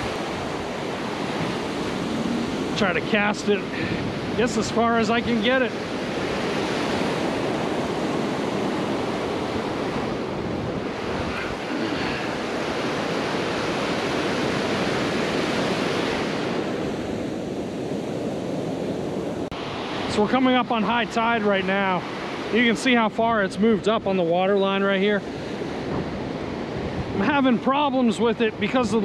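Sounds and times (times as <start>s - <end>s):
surf waves breaking: 0.0s - 29.0s.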